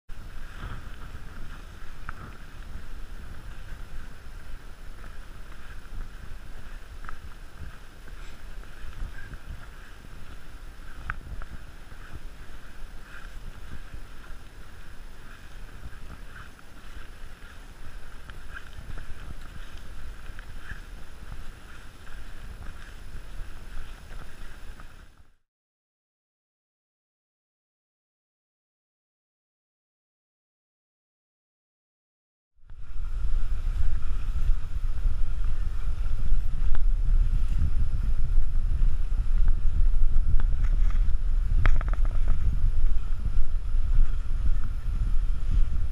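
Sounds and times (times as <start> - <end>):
steady high hiss: 0.1 - 25.3, 32.6 - 45.9
wind rumbling on microphone: 0.1 - 25.4, 32.6 - 45.9.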